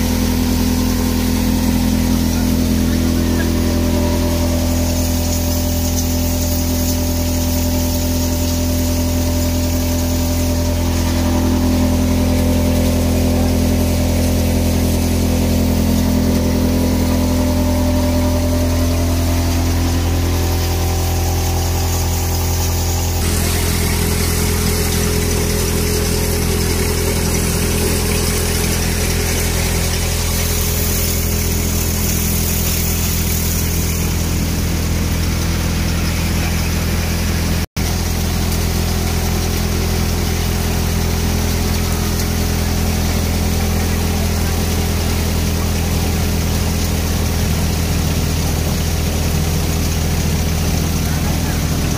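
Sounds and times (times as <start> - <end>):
thresher drum and fans rushing: 0.0 - 51.9
tractor engine humming: 0.0 - 51.9.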